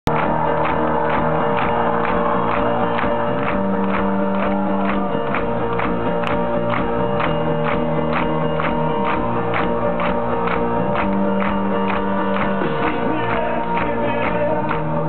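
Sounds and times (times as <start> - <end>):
live rock band playing: 0.1 - 15.0.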